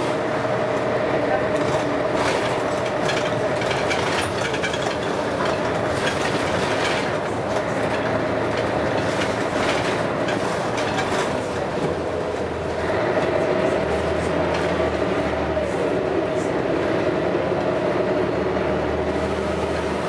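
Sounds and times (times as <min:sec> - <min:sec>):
bus body rattling: 0:00.0 - 0:20.0
diesel bus engine running: 0:00.0 - 0:20.0.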